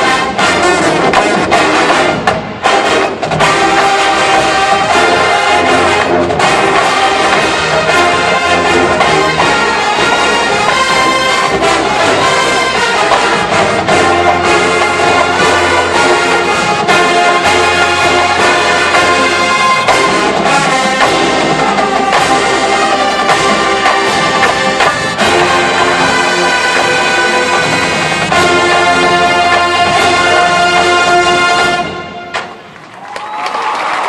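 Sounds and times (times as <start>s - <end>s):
brass ensemble music: 0.0s - 34.0s.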